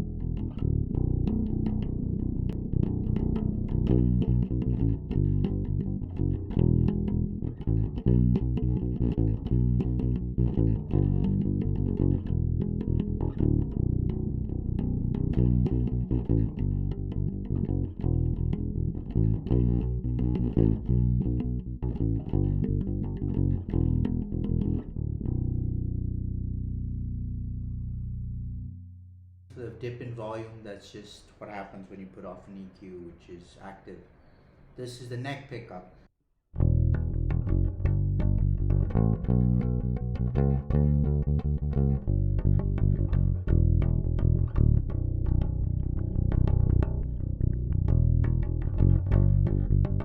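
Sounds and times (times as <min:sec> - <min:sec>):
bass guitar riff plucked: 0:00.0 - 0:29.4, 0:36.6 - 0:50.0.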